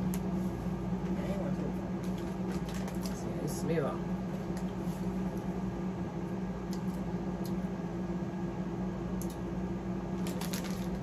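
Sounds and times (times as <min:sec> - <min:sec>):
room hum and hiss: 0:00.0 - 0:11.0.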